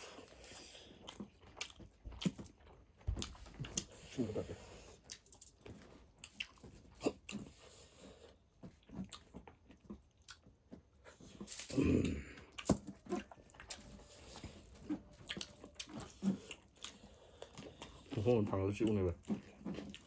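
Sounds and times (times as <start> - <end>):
close chewing and biting: 0.0 - 20.0.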